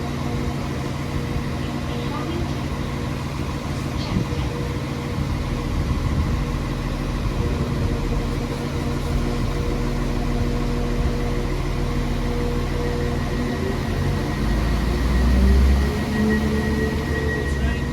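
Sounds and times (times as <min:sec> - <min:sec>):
train engine humming: 0:00.0 - 0:17.9.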